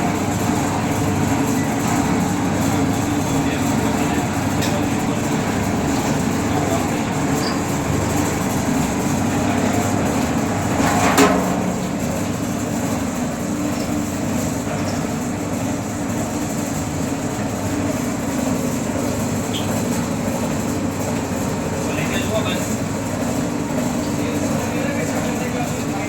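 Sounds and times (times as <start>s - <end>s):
bottle washing machine running: 0.0s - 26.0s.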